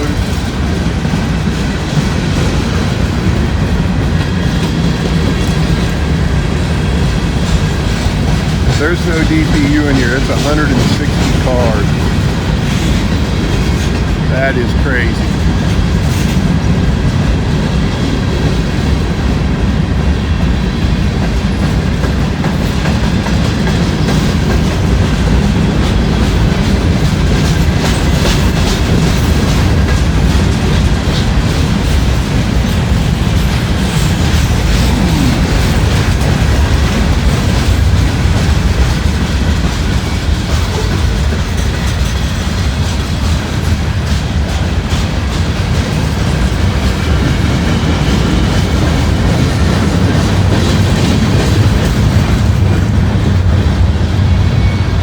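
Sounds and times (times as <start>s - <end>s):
wheels clacking over rail joints: 0.0s - 14.3s, 15.2s - 54.7s
freight train wheels rumbling: 0.0s - 55.0s.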